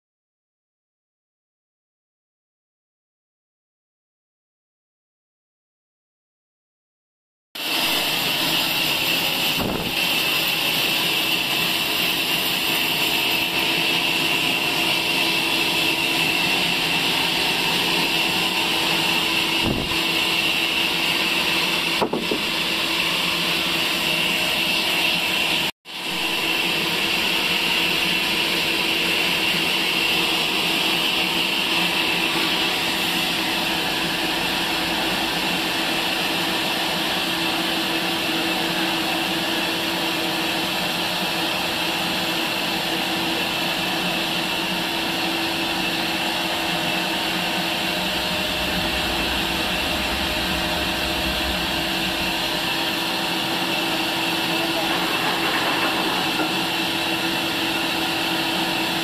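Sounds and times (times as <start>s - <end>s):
band sawmill running: 7.6s - 59.0s.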